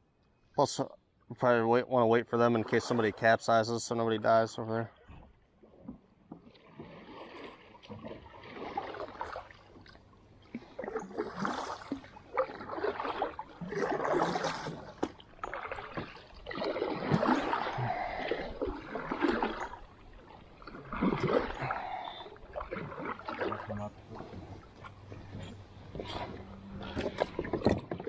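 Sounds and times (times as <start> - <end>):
kayak paddle strokes in water: 5.0 - 28.0
water splashing and dripping: 5.0 - 28.0.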